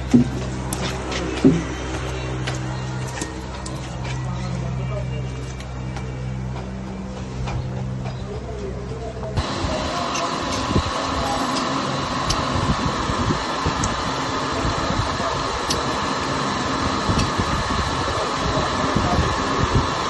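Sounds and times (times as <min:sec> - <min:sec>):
machine whirring: 0:00.0 - 0:08.5, 0:09.2 - 0:20.0.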